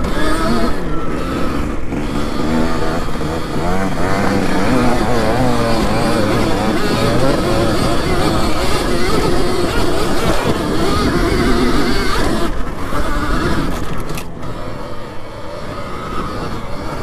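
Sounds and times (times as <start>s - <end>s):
electric motor whine: 0.0s - 17.0s
wind: 0.0s - 17.0s.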